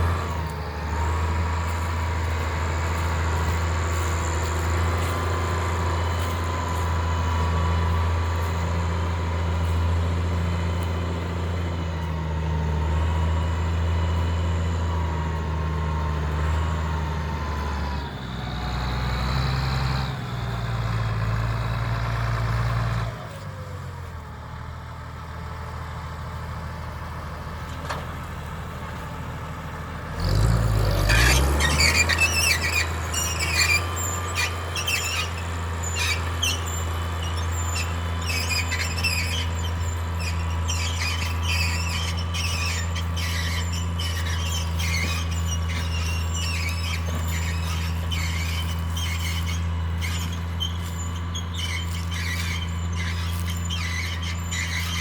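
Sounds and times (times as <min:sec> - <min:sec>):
plough squeaking and squealing: 0:00.0 - 0:23.1, 0:30.2 - 0:55.0
tractor diesel engine under load: 0:00.0 - 0:55.0.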